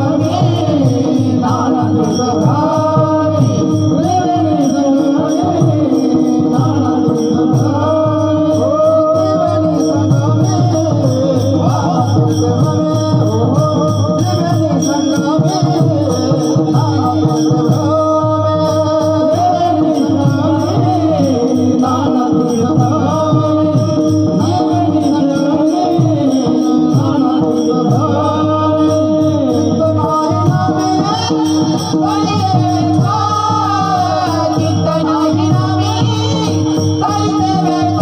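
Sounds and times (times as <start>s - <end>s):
jingling beat: 0.0s - 38.0s
voices singing devotional song: 0.0s - 38.0s.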